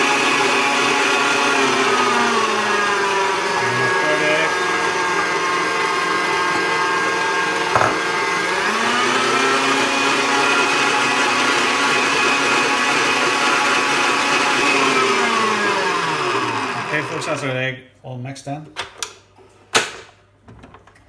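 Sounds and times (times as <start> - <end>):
electric mixer motor: 0.0 - 17.4.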